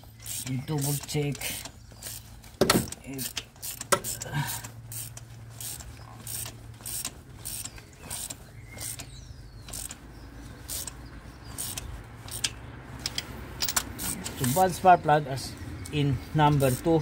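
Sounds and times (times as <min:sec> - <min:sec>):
ratchet wrench clicking: 0:00.2 - 0:10.0, 0:10.6 - 0:14.7, 0:15.8 - 0:17.0.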